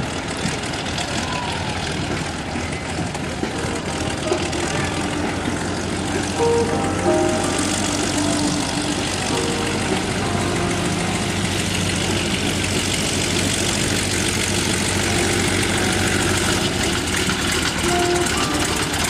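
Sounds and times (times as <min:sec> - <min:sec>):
aircraft engine idling: 0:00.0 - 0:19.0
propeller noise: 0:00.0 - 0:19.0.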